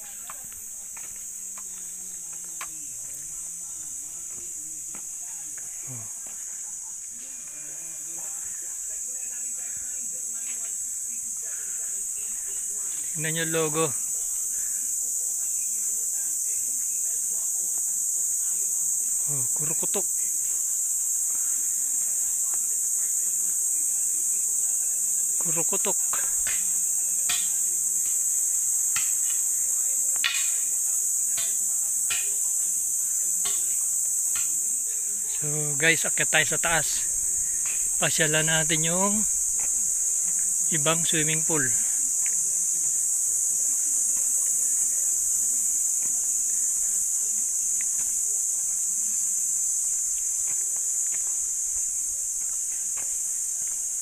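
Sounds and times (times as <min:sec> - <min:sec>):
insect chorus shrilling: 0:00.0 - 0:54.0.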